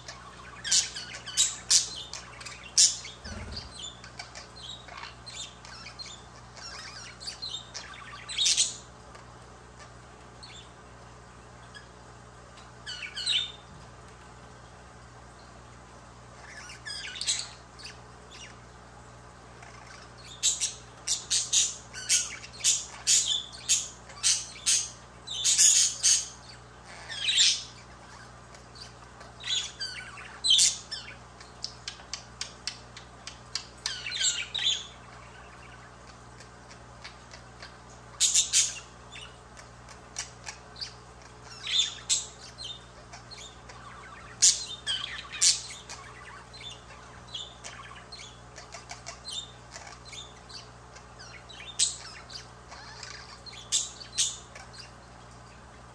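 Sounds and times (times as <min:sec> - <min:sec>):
budgerigar chirping and squawking: 0:00.0 - 0:10.8, 0:11.6 - 0:13.7, 0:16.3 - 0:18.6, 0:19.5 - 0:55.9.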